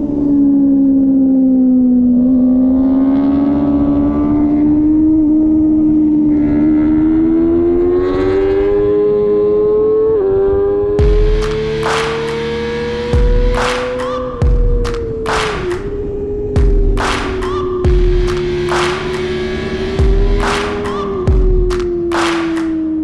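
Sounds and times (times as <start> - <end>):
superbike engine at high revs: 1.7 - 23.0.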